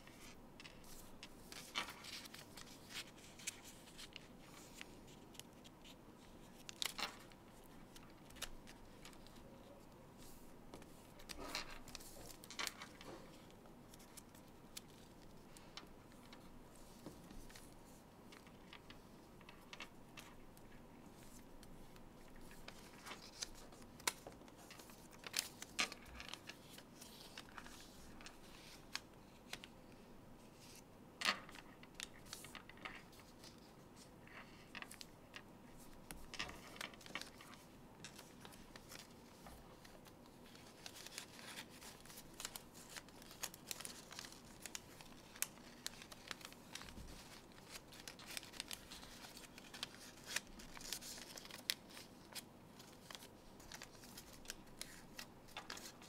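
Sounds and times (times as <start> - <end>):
paper rustling and crinkling: 0.0 - 56.0
paper crackles: 0.1 - 29.7, 35.8 - 56.0.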